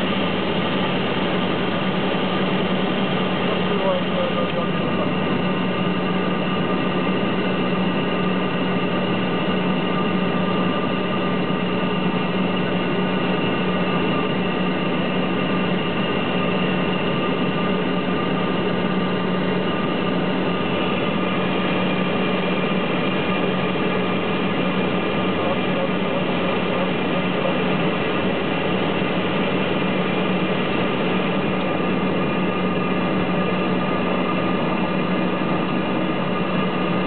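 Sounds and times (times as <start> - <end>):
high whining engine tones: 0.0 - 37.0
turboprop engines droning: 0.0 - 37.0.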